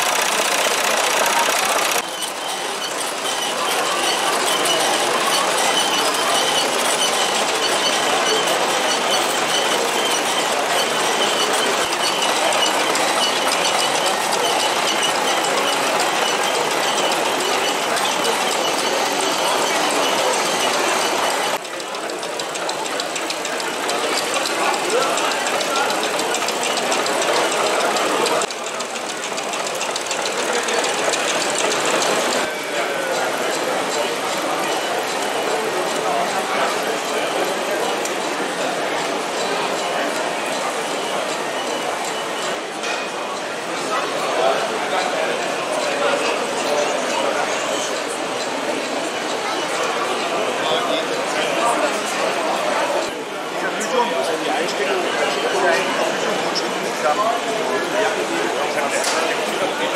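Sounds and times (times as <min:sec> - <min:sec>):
toy engine whirring and clatter: 0:00.0 - 0:42.7, 0:43.3 - 0:59.9.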